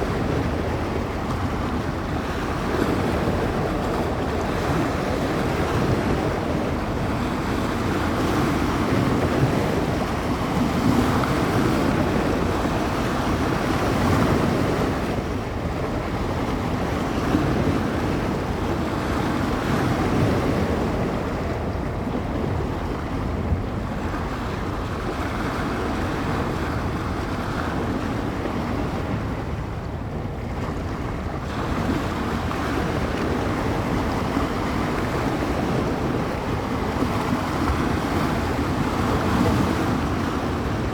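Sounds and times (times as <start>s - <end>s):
waves breaking on shore: 0.0s - 40.9s
wind buffeting microphone: 0.0s - 40.9s.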